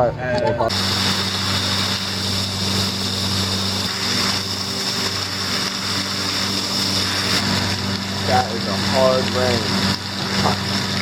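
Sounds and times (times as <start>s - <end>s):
low hum: 0.0s - 11.0s
heavy rain pouring: 0.7s - 11.0s.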